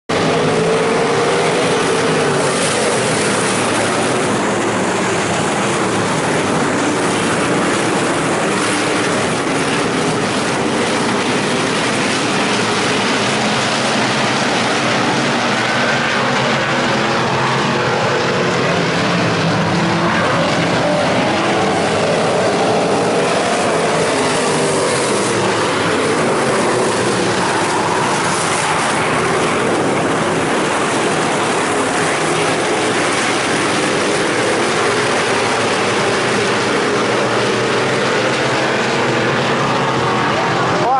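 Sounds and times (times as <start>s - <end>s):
race car engines droning: 0.0s - 40.9s.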